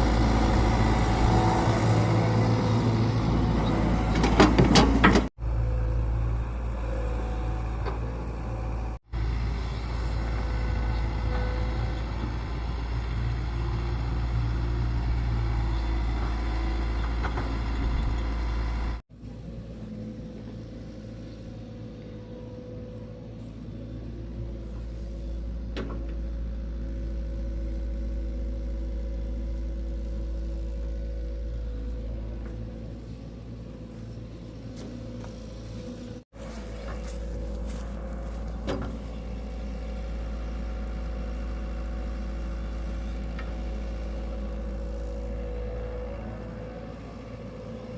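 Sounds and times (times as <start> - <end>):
engine low rumble: 0.0 - 47.9.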